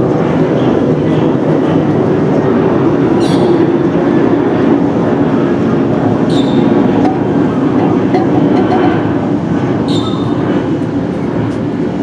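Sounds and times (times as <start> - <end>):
jet airliner flying overhead: 0.0 - 12.0.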